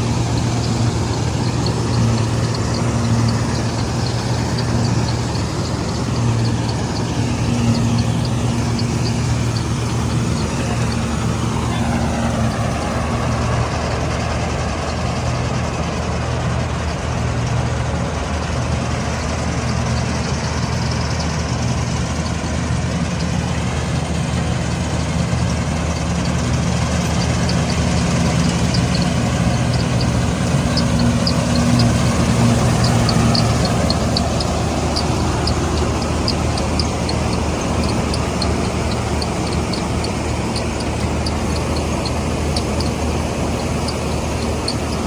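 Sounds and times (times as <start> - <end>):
diesel engine running under load: 0.0 - 45.0.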